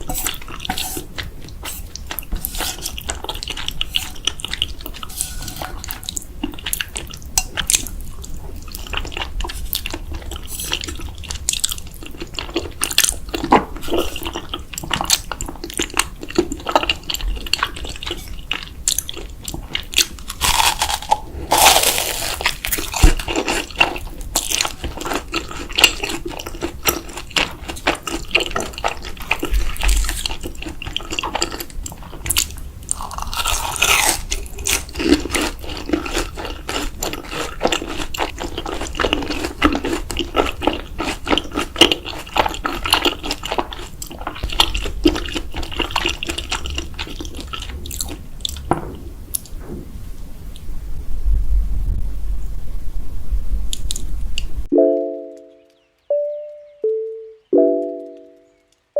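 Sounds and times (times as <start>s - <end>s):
wet chewing of noodles: 0.0s - 48.7s.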